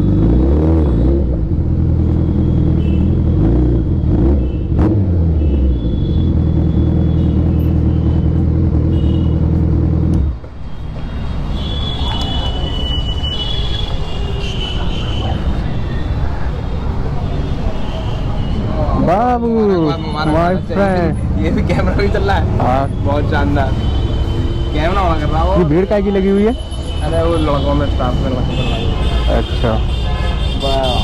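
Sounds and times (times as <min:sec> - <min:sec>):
street noise: 0:00.0 - 0:31.0.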